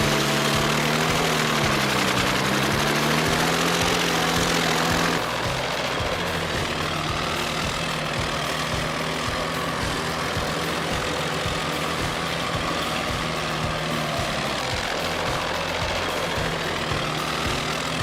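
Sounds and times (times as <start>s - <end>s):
background music: 0.0s - 18.0s
machine engine running: 0.0s - 18.0s.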